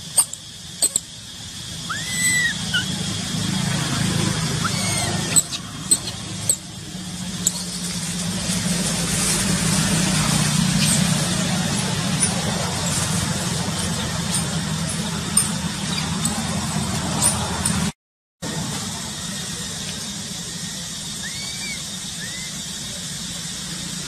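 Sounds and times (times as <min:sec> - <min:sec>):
hiss: 0:00.0 - 0:15.7, 0:18.5 - 0:24.0.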